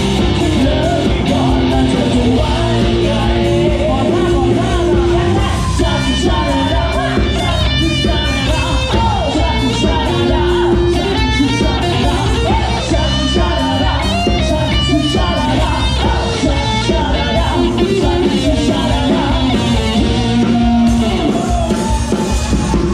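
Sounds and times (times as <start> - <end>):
drum kit: 0.0 - 22.9
electric guitar: 0.0 - 22.9.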